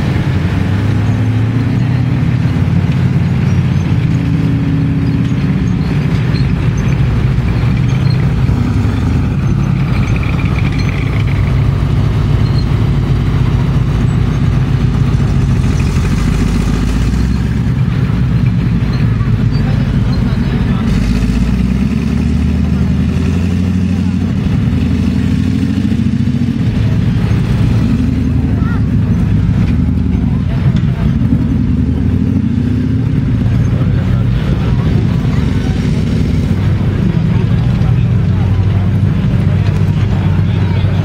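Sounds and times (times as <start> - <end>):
armoured car engine: 0.0 - 41.0
tank engine driving slowly: 0.0 - 41.0.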